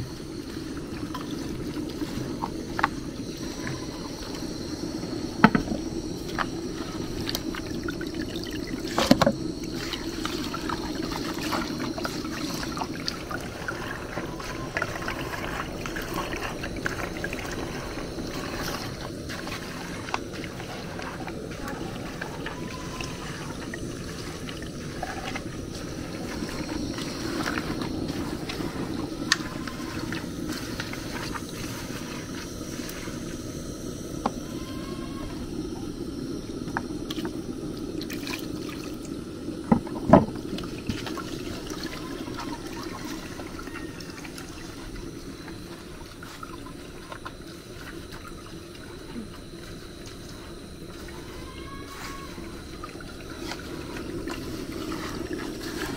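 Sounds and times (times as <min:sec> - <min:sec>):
juice trickling into bowl: 0:00.0 - 0:55.9.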